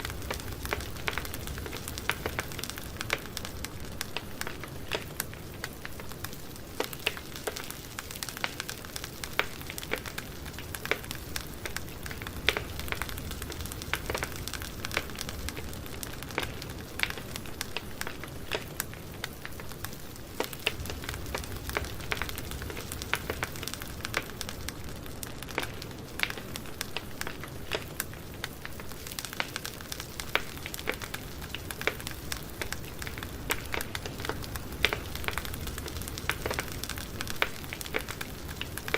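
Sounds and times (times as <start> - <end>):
burning wood crackling and popping: 0.0 - 38.9
campfire hissing: 0.0 - 38.9
low rumble of flames: 0.0 - 38.9.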